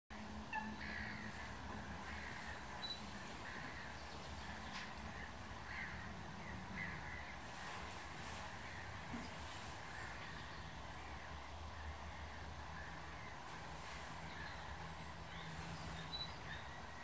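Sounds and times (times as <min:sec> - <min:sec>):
faint low hum: 0:00.1 - 0:17.0
harsh crow-like bird calls: 0:00.4 - 0:17.0.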